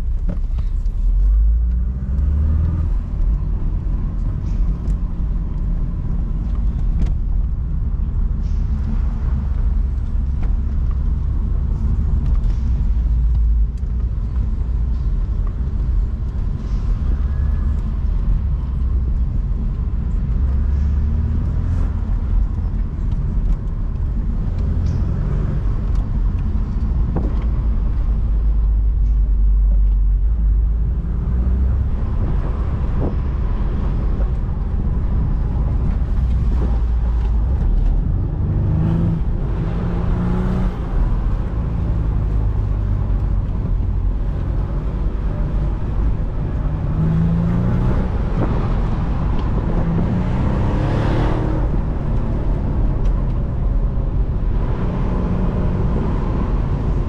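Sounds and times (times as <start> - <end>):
car engine rumbling: 0.0 - 57.0
road noise: 0.0 - 57.0.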